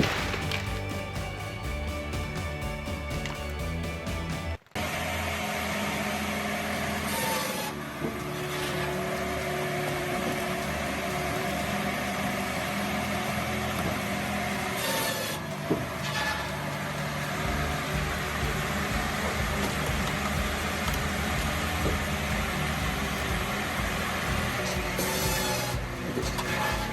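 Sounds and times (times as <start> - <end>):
saw cutting through wood: 4.8 - 26.9.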